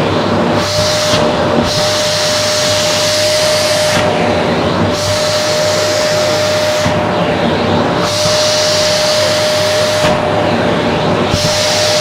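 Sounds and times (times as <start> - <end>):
vacuum cleaner whining: 0.0 - 12.0
suction hiss: 0.6 - 12.0.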